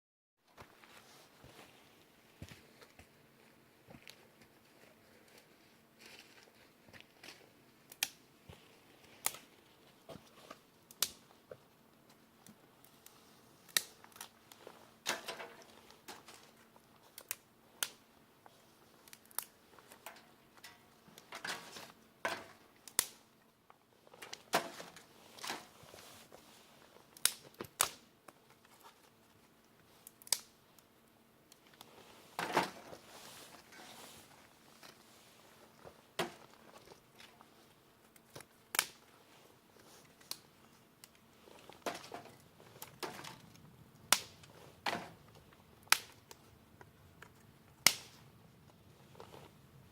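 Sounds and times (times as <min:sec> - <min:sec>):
faint steady hum: 0:00.5 - 0:49.9
campfire wood crackling and popping: 0:05.3 - 0:49.9.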